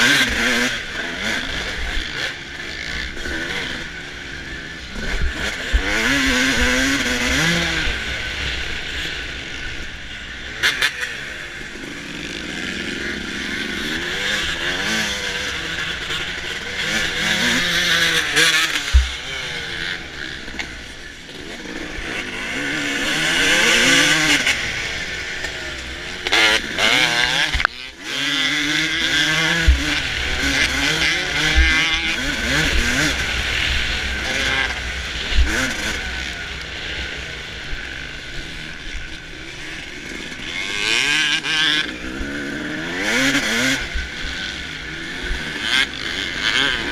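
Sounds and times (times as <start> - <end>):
two-stroke engine revving hard: 0.0 - 46.9
steady rushing noise: 0.6 - 46.9.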